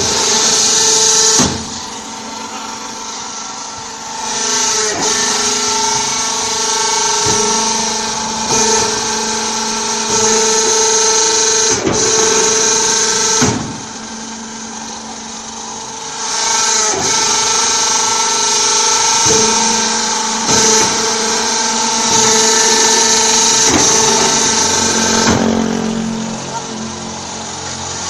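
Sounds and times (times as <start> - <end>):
brick press machine whine: 0.0 - 28.0.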